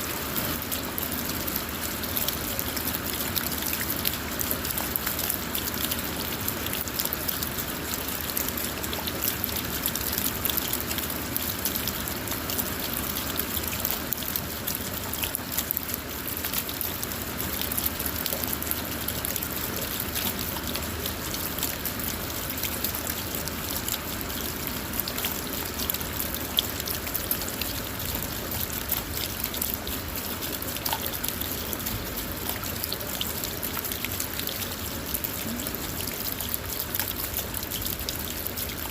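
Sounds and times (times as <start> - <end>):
rain falling on a car: 0.0 - 38.9
trickling water: 0.0 - 38.9.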